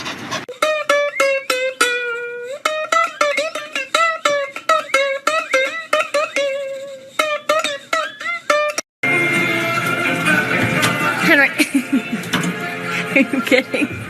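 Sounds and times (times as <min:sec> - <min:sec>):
plucked string instrument melody: 0:00.5 - 0:14.0.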